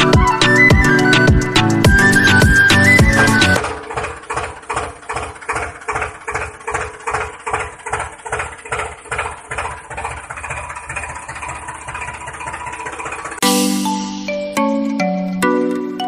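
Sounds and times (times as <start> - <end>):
engine chugging: 0.0 - 13.4.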